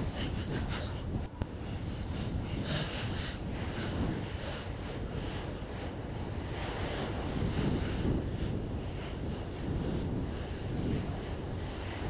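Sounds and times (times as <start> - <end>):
wind buffeting: 0.0 - 12.0.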